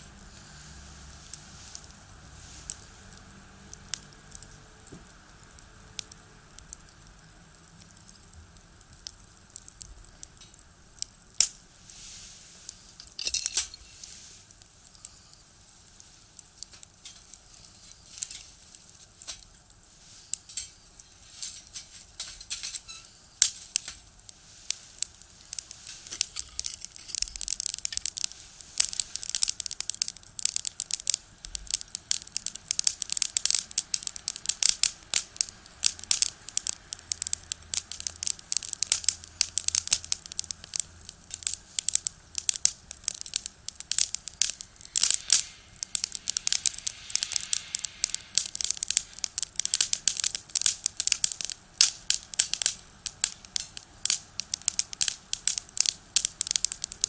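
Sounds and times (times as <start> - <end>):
firewood crackling in stove: 0.0 - 57.0.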